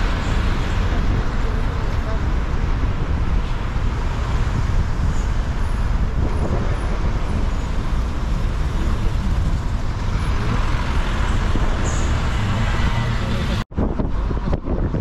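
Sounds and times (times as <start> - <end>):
low vehicle rumble: 0.0 - 15.0
traffic and road noise: 0.0 - 15.0.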